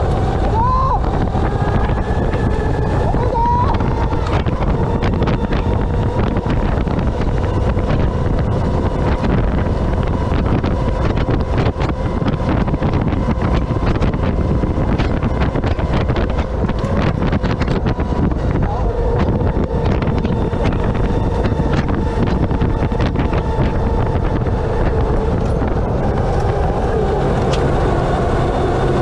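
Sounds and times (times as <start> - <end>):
low rumble: 0.0 - 29.0
wind buffeting microphone: 0.0 - 29.0.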